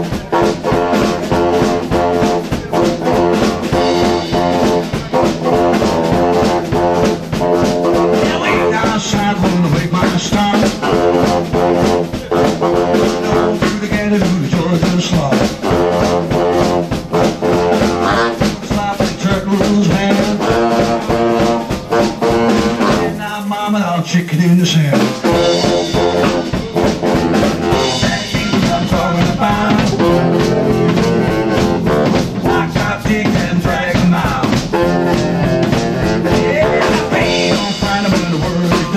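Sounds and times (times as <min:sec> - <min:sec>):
baritone saxophone melody: 0:00.0 - 0:23.4, 0:24.9 - 0:38.9
swing band playing: 0:00.0 - 0:38.9.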